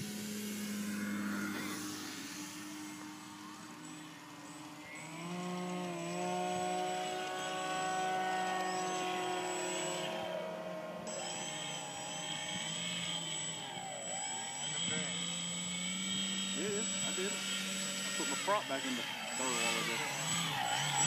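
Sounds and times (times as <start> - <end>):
electric motor and propeller whirr: 0.0 - 21.0.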